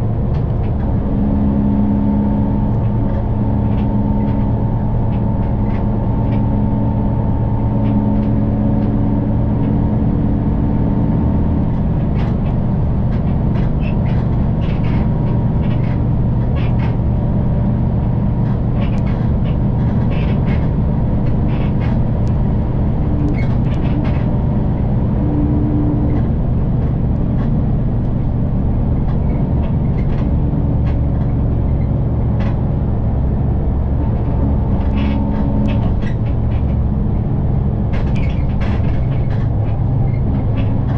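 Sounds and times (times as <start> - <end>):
bus engine droning: 0.0 - 40.9.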